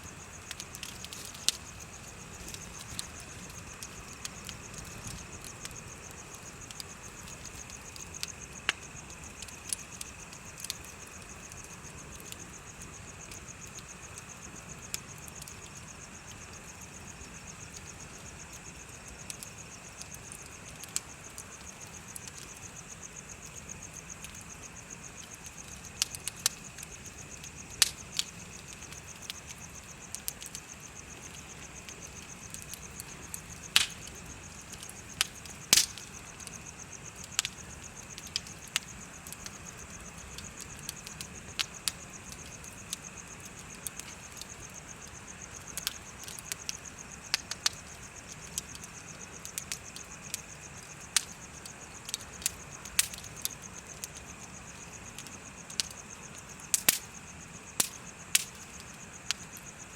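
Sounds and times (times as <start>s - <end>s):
bonfire crackling and popping: 0.0s - 59.9s
insects chirping: 0.0s - 59.9s.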